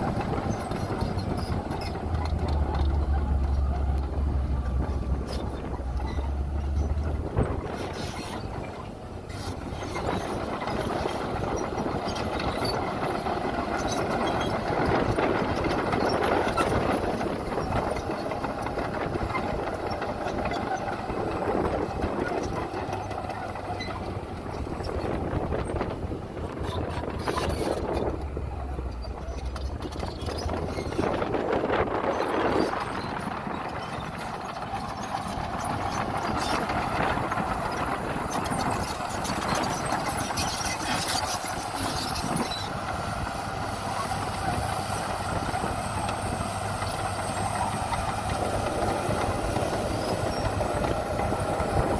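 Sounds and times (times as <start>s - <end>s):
heavy machinery diesel engines rumbling: 0.0s - 51.9s.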